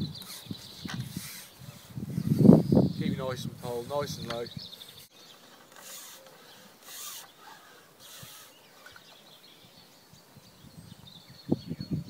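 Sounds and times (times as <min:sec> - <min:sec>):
distant birdsong: 0:00.0 - 0:12.0.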